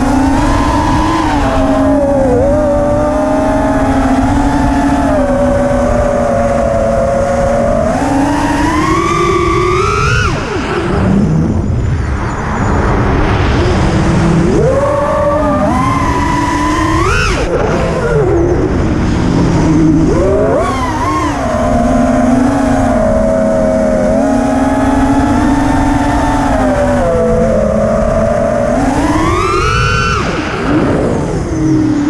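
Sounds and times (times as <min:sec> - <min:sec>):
drone motors whining: 0:00.0 - 0:32.0
wind rush on microphone: 0:00.0 - 0:32.0.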